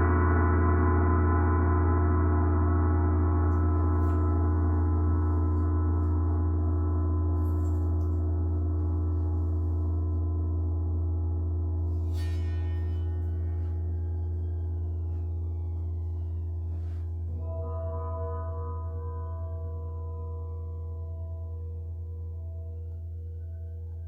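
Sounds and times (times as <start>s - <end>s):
deep ringing tone: 0.0s - 24.0s.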